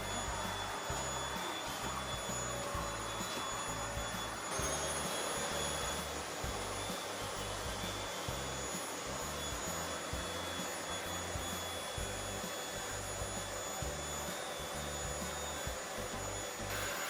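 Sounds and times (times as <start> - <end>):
background music: 0.0 - 17.0
vacuum cleaner running: 0.0 - 17.0.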